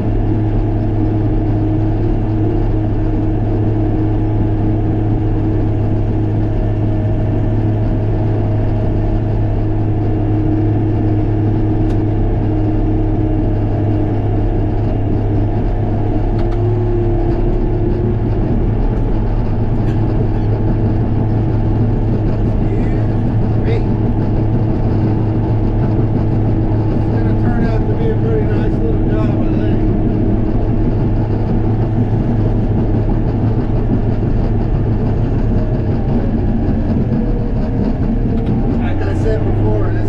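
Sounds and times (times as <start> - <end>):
diesel engine running steadily: 0.0 - 40.0.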